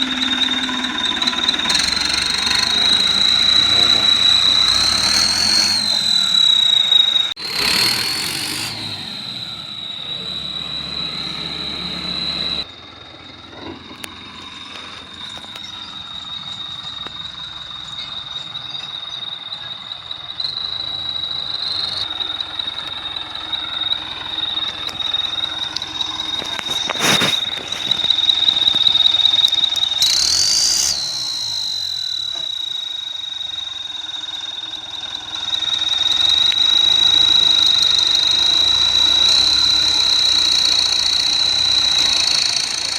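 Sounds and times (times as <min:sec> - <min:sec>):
turbo whistle high pitch: 0:00.0 - 0:12.8, 0:14.3 - 0:42.9
tractor engine running: 0:00.0 - 0:42.9.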